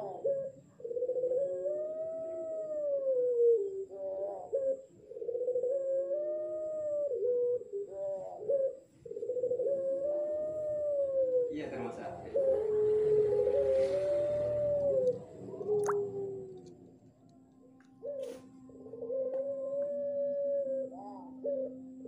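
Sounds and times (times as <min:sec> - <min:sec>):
dove cooing: 0:00.0 - 0:17.0, 0:17.9 - 0:22.0.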